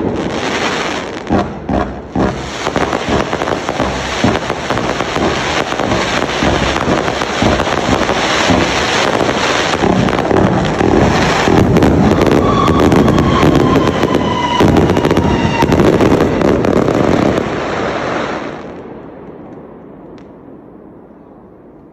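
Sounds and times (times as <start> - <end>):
fireworks barrage with crackling: 0.0 - 21.3.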